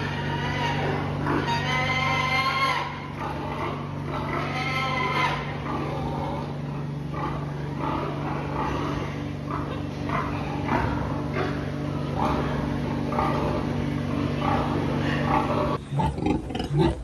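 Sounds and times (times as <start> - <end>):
pigs grunting: 0.0 - 17.0
pigs squealing: 0.0 - 17.0
steady low hum: 0.0 - 17.0.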